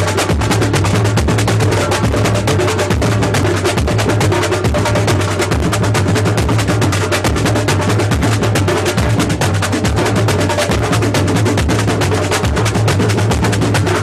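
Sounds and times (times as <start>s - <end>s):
continuous low drum: 0.0s - 14.0s
fast drum strokes: 0.0s - 14.0s.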